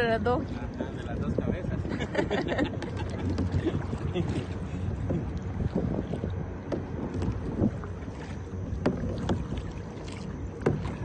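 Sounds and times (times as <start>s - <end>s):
paddle splashes and knocks: 0.0s - 11.0s
wind rumbling on microphone: 0.0s - 11.0s.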